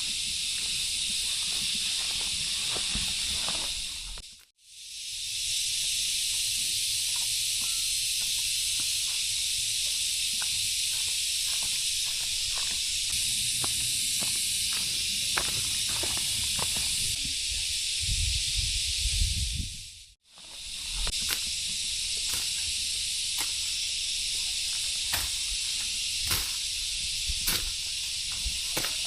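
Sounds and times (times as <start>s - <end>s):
steady high outdoor hiss: 0.0s - 29.0s.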